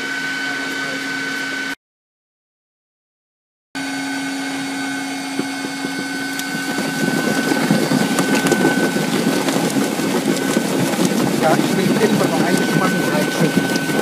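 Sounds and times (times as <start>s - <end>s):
food-cutting machine humming: 0.0s - 1.8s, 3.8s - 14.0s.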